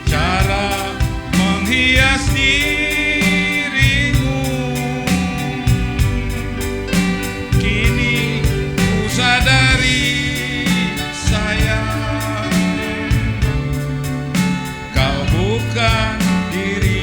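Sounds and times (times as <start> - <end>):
drum strokes: 0.0 - 17.0.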